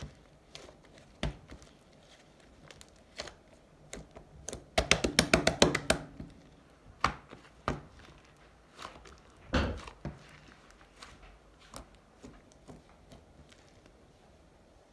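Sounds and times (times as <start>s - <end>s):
slime squelching by hand: 0.0s - 14.9s.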